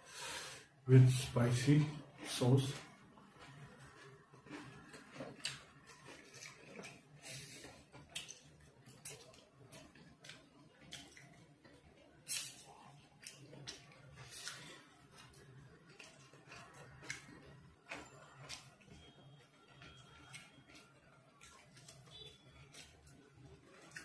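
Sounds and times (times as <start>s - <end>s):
chewing and mouth noises: 2.0s - 24.0s.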